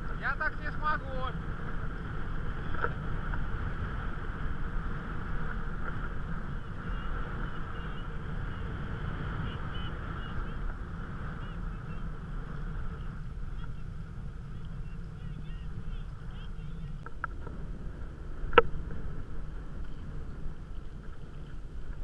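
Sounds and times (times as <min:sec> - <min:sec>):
water noise: 0:00.0 - 0:22.0
wind rushing over microphone: 0:00.0 - 0:22.0.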